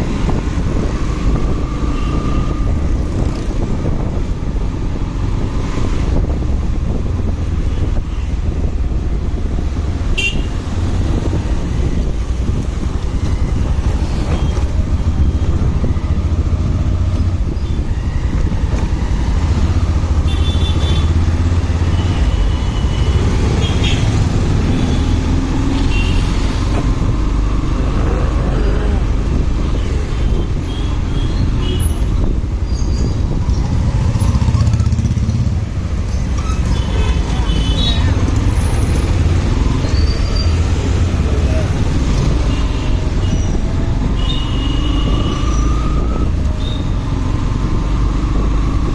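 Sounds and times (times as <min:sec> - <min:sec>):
wind rumble on microphone: 0:00.0 - 0:20.3, 0:20.9 - 0:48.9
road traffic: 0:00.0 - 0:48.9.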